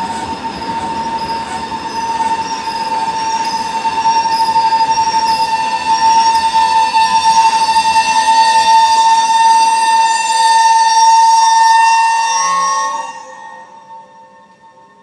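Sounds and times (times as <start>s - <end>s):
low rumble of rail cars: 0.0s - 15.0s
train wheels squealing on rails: 0.0s - 15.0s.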